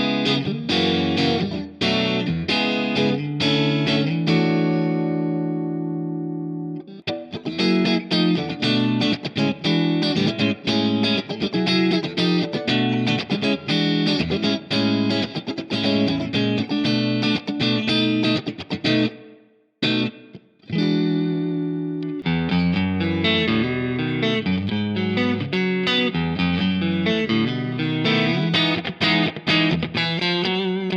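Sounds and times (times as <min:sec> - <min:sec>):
electric guitar notes: 0:00.0 - 0:30.9
guitar chord ringing: 0:00.0 - 0:30.9.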